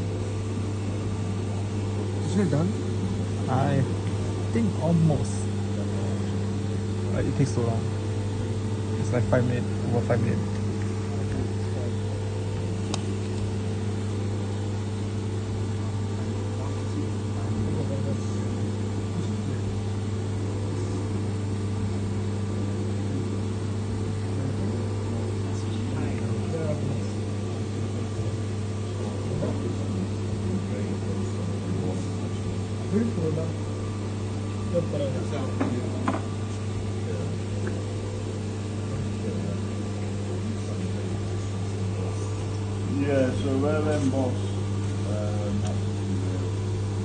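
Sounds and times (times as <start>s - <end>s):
cnc machine humming: 0.0s - 47.0s.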